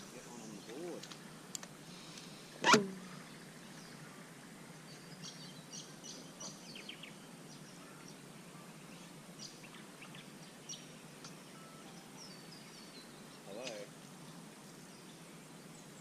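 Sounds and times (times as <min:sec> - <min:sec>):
birds chirping: 0:00.0 - 0:16.0
low background hiss: 0:00.0 - 0:16.0.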